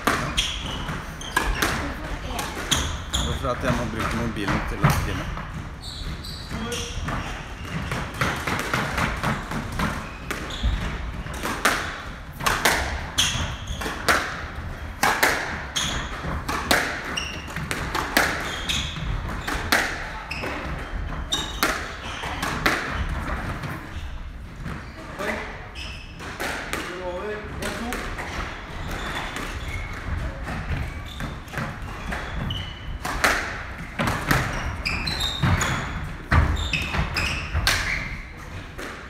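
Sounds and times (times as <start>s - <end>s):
shoes squeaking on wooden floor: 0.0s - 11.4s, 13.1s - 14.1s, 15.6s - 26.2s, 28.3s - 38.7s
squash ball hitting rackets and walls: 0.0s - 39.0s.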